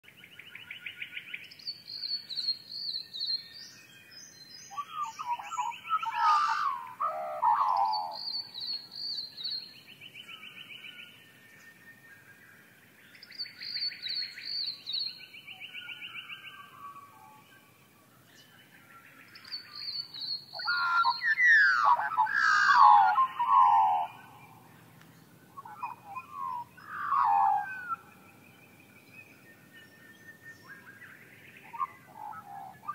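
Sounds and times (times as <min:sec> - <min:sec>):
birds trilling and whistling: 0:00.1 - 0:32.9.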